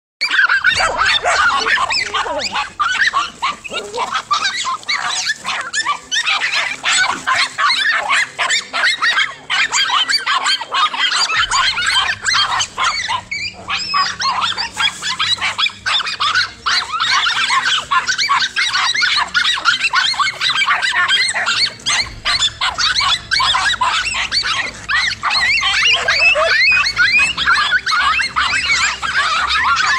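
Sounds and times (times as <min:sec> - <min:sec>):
dogs yelping and barking in fight: 0:00.2 - 0:29.9.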